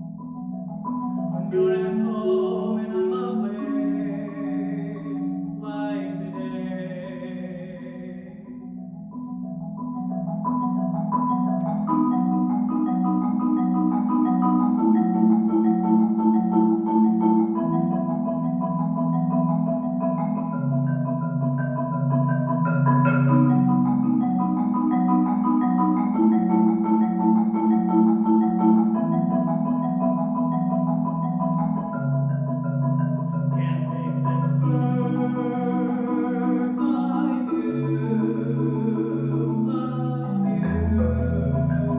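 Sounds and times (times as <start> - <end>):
solo marimba playing: 0.0 - 41.9.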